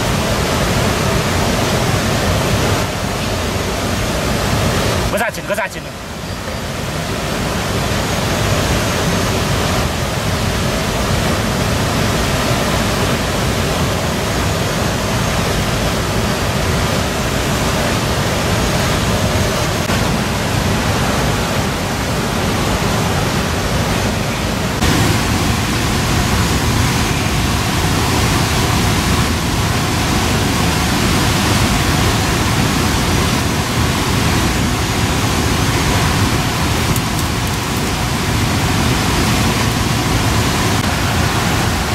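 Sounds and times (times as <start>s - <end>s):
steady rushing noise: 0.0s - 41.9s.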